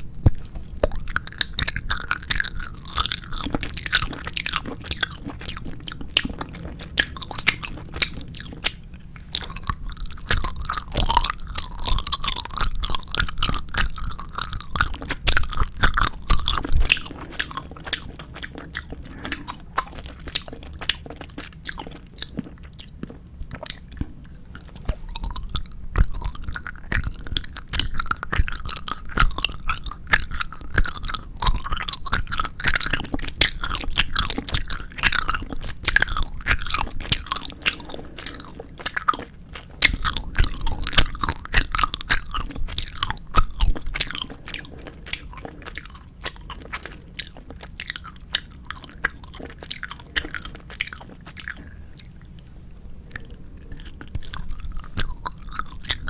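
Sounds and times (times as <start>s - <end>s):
gummy candy chewing mouth clicks: 0.0s - 56.0s.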